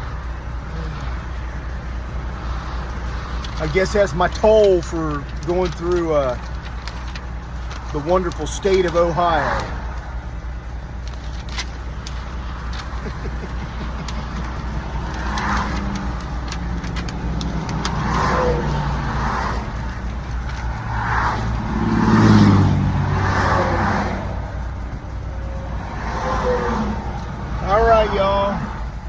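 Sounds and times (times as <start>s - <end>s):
truck diesel engine revving: 0.0s - 29.0s.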